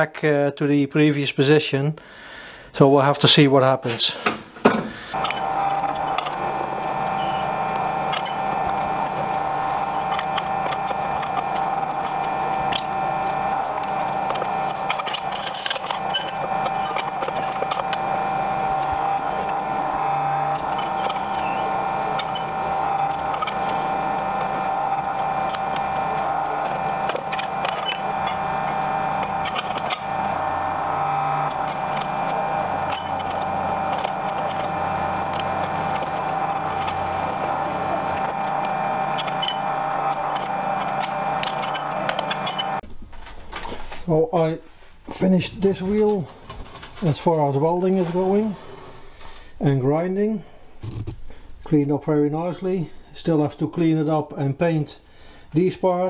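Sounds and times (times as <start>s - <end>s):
hydraulic pump whining: 3.9s - 54.1s.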